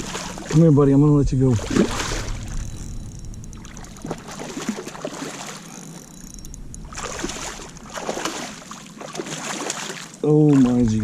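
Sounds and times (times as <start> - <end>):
water splashing against kayak: 0.0 - 2.9, 3.6 - 6.1, 6.8 - 11.0.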